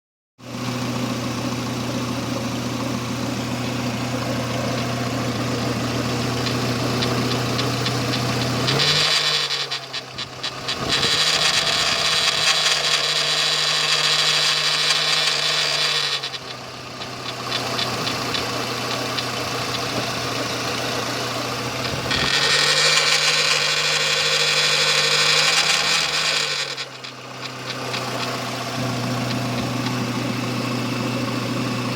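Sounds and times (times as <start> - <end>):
car engine idling and revving: 0.4 - 31.9.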